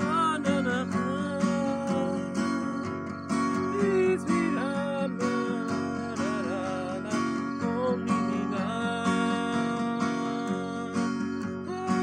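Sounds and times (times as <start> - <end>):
acoustic guitar strummed: 0.0 - 12.0
wordless singing: 0.0 - 12.0.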